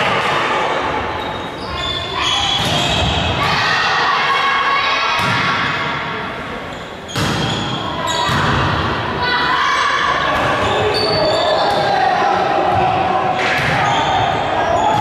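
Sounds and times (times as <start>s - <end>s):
people shouting in a hall: 0.0s - 6.4s, 7.6s - 15.0s.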